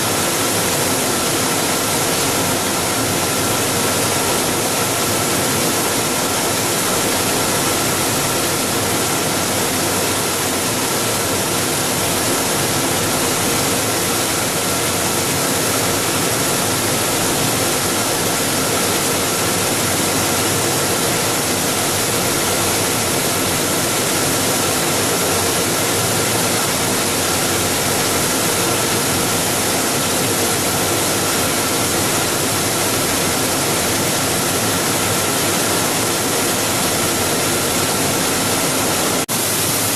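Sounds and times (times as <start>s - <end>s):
machine whir and hiss: 0.0s - 39.9s.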